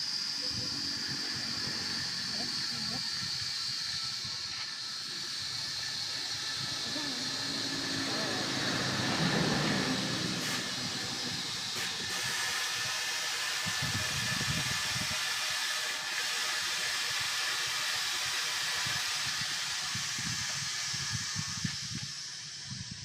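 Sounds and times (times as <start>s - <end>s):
compressed air hissing: 0.0s - 23.0s.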